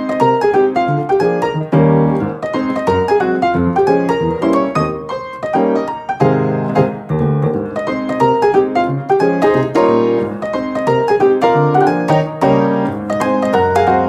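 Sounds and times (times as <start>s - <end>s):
lively piano tune: 0.0s - 14.0s.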